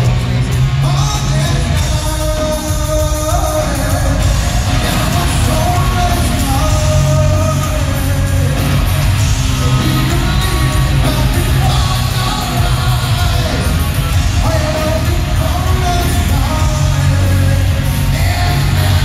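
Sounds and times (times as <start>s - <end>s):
heavy metal band playing live: 0.0s - 19.0s
singer: 0.0s - 19.0s.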